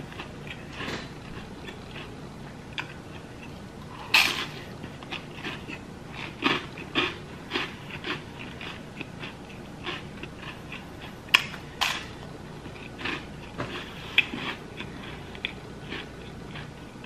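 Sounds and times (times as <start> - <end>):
toast crunching while chewed: 0.1 - 17.0.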